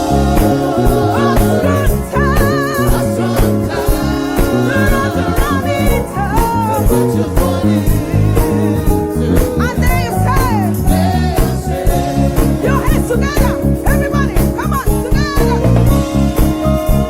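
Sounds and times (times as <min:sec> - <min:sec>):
band with steady beat: 0:00.0 - 0:17.0
people singing gospel music: 0:00.0 - 0:17.0.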